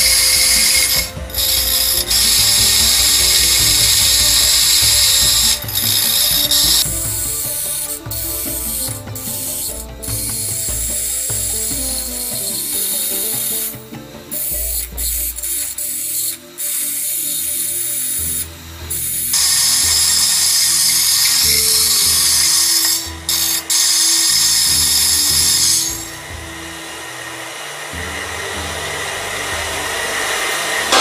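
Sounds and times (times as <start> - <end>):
bench grinder running: 0.0 - 31.0
dressing tool scraping grinding wheel: 0.0 - 31.0.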